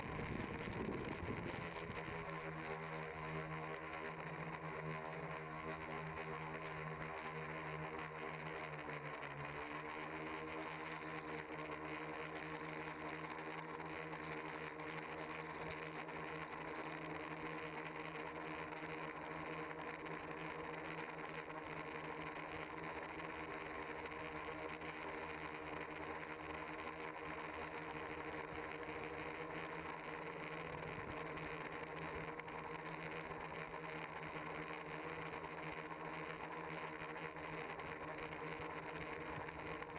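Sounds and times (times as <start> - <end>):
drone propellers humming: 0.0 - 39.9.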